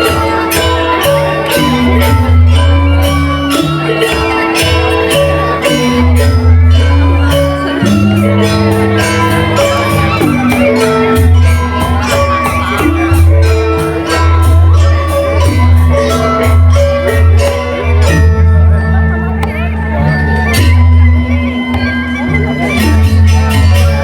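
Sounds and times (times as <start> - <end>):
metallophones playing melody: 0.0 - 24.0
rapid metallic cymbal strikes: 0.0 - 24.0.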